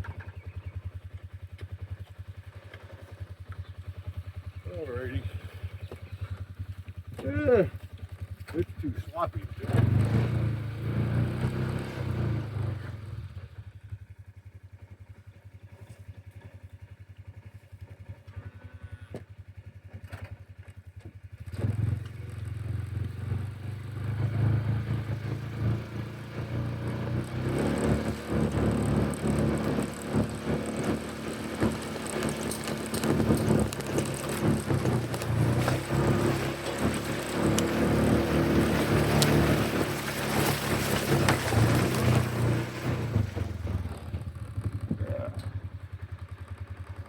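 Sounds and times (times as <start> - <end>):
farm vehicle engine running: 0.0 - 47.0.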